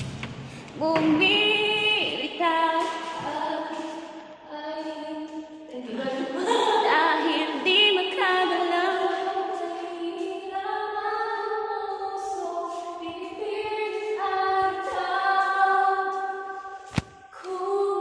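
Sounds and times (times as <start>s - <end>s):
woman singing with music: 0.7s - 18.0s.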